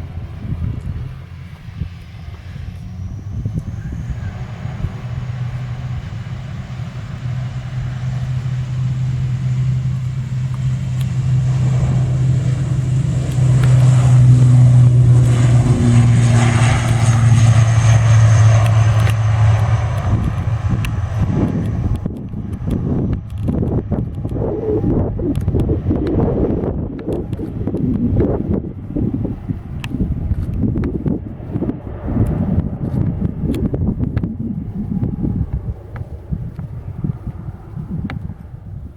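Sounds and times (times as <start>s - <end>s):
airliner engines droning: 0.0s - 38.9s.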